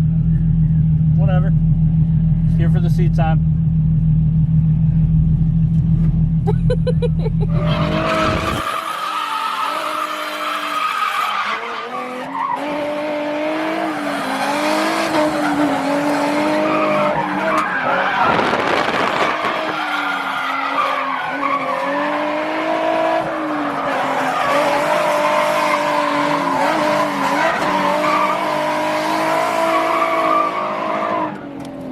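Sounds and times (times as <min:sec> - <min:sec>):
car engine on throttle: 0:00.0 - 0:31.9
tyres skidding: 0:04.6 - 0:31.9.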